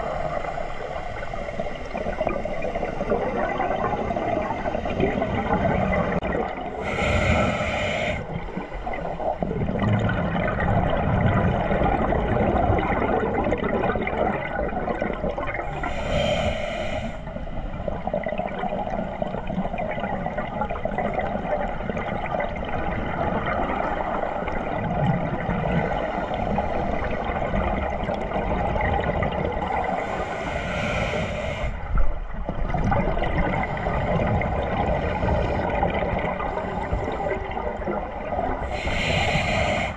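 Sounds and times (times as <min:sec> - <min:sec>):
steady underwater rush: 0:00.0 - 0:39.9.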